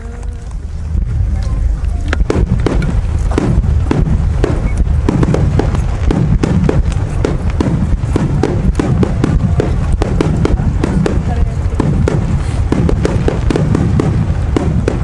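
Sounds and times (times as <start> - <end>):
fireworks bursting: 0.0 - 15.0
low rumble: 0.0 - 15.0.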